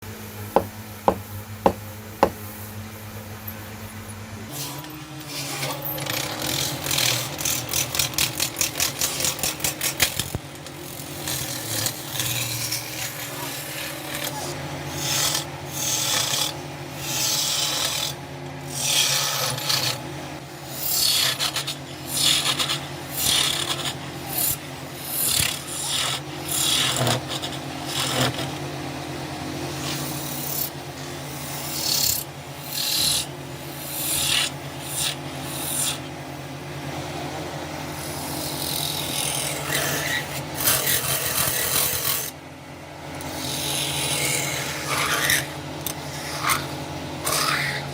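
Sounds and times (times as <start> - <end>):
wood rubbing with abrasive tool: 0.0 - 36.2, 37.9 - 42.4, 43.2 - 47.9
steady hum: 0.0 - 47.9.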